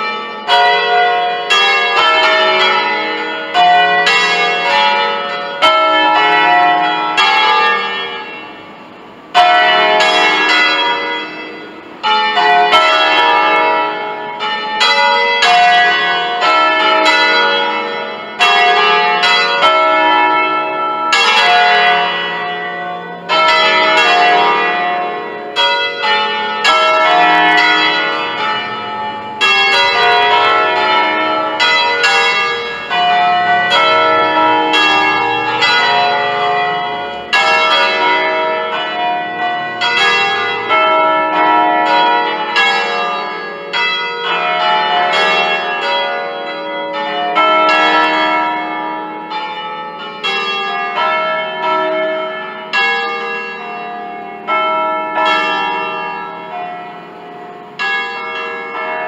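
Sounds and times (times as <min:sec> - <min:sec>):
church bells ringing a peal: 0:00.0 - 0:59.0.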